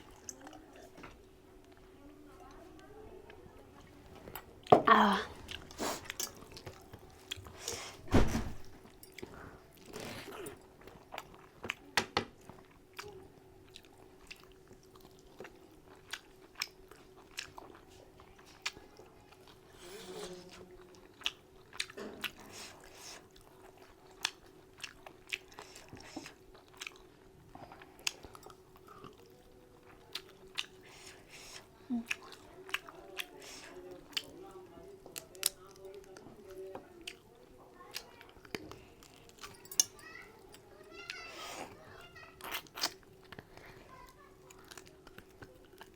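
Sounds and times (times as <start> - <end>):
person chewing food: 4.0 - 8.0, 8.9 - 11.8, 12.4 - 45.9.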